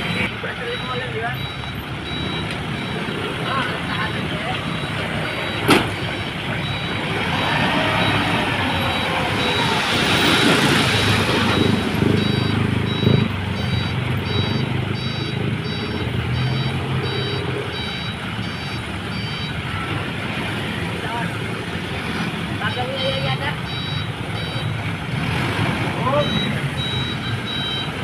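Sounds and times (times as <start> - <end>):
reversing alarm beeping: 0.0 - 19.6, 22.6 - 24.8, 26.0 - 28.0
diesel truck engine running: 0.0 - 28.0.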